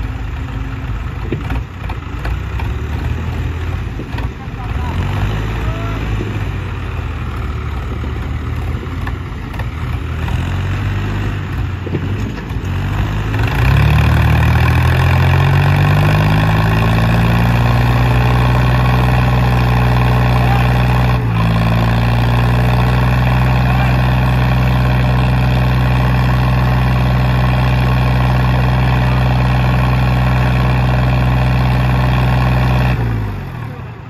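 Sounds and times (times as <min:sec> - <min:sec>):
diesel tractor engines revving: 0:00.0 - 0:34.0.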